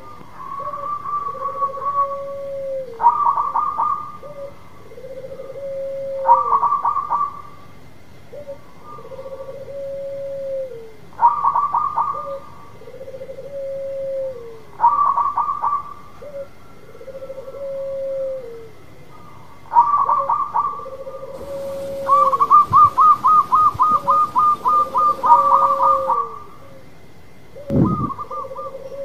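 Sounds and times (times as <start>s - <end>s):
dove trilling coos: 0.0s - 7.6s, 8.3s - 26.9s, 27.5s - 29.0s.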